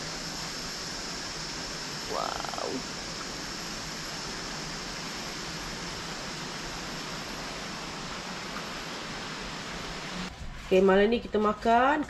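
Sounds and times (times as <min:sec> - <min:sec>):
forest ambience hiss: 0:00.0 - 0:12.0.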